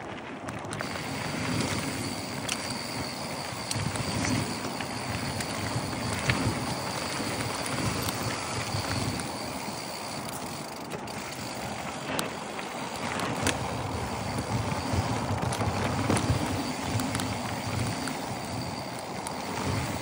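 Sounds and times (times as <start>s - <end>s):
bike clicks and knocks: 0.0s - 20.0s
bike tyres rolling on dirt: 0.0s - 20.0s
wind noise: 0.0s - 20.0s.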